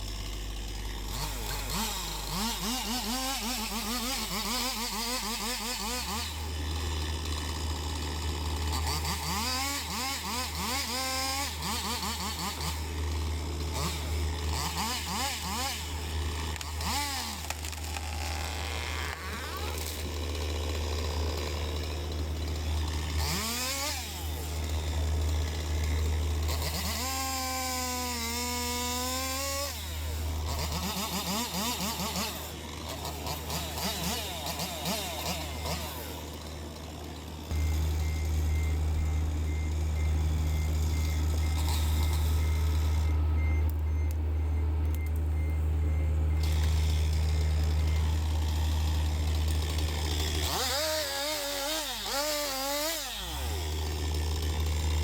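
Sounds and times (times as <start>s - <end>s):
diesel engine running: 0.0s - 55.0s
hydraulic whines: 0.0s - 55.0s.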